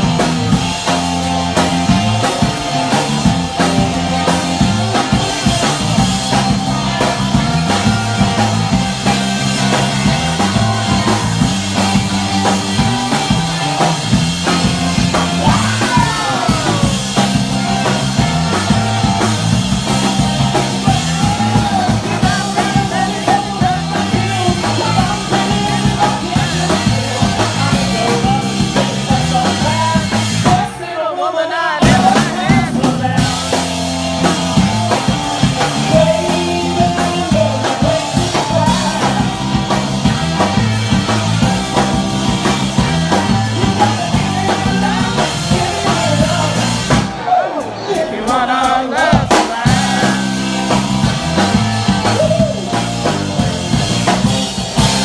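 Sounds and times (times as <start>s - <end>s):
live rock band playing: 0.0s - 30.9s, 31.8s - 55.0s
person singing: 0.0s - 41.1s, 41.7s - 53.1s.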